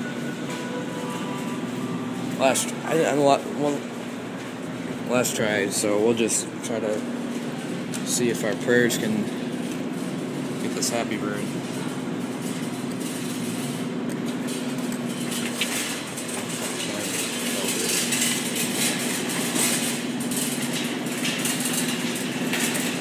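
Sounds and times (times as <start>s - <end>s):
claw crane machine whirring: 0.0s - 23.0s.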